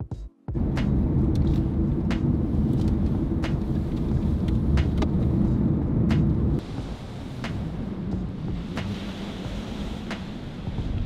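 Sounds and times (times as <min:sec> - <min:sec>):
car road noise rumble: 0:00.5 - 0:11.0.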